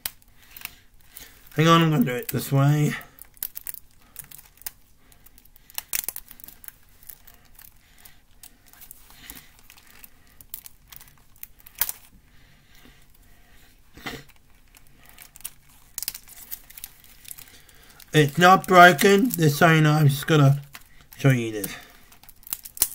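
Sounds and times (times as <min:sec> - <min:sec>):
sharp plastic crackles: 0:00.0 - 0:22.9
packaging crinkling and tearing: 0:00.4 - 0:12.1, 0:14.0 - 0:22.9.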